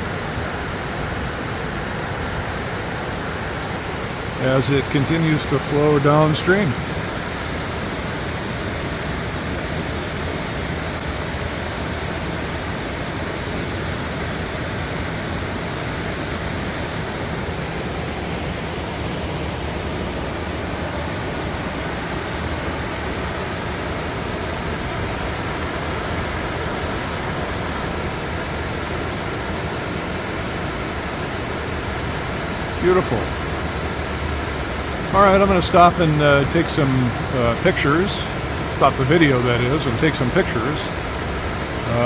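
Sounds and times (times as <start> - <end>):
small waterfall rushing: 0.0 - 42.0.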